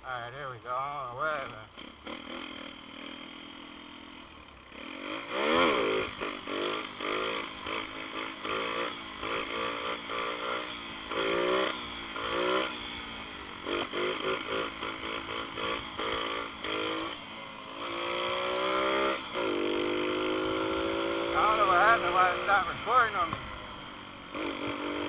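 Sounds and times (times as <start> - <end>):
motorbike engine idling and revving: 0.0 - 25.0.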